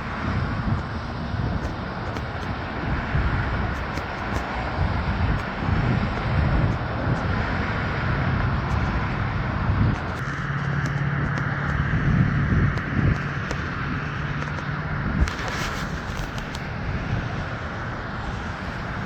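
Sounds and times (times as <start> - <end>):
cars passing: 0.0 - 19.0
wind rumbling on microphone: 0.0 - 19.0.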